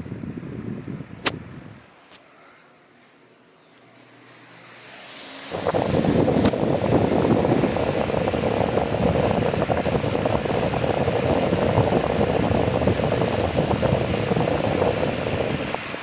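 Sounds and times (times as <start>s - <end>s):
wall fan running: 0.0s - 16.0s.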